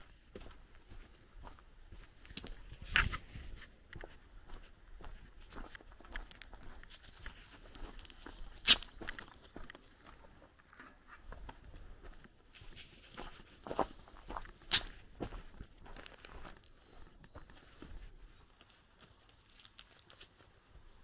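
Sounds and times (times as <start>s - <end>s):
footsteps crunching on gravel: 0.2s - 10.4s, 11.3s - 18.2s.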